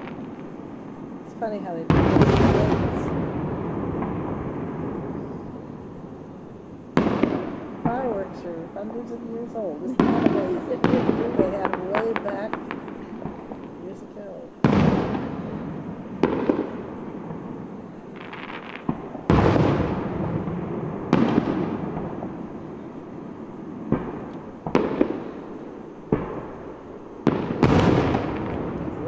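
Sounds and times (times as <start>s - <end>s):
fireworks booming: 0.0s - 29.0s.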